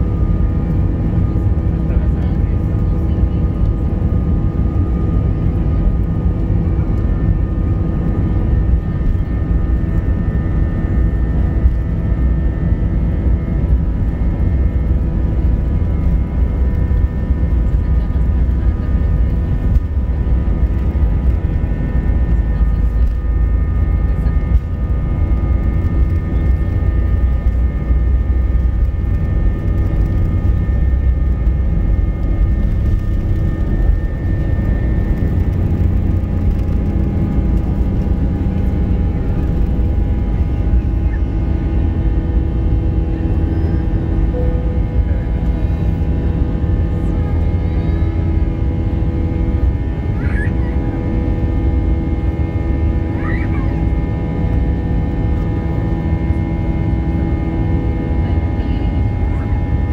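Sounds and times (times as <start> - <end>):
engine whining tones: 0.0 - 59.9
jet engines rumbling: 0.0 - 59.9.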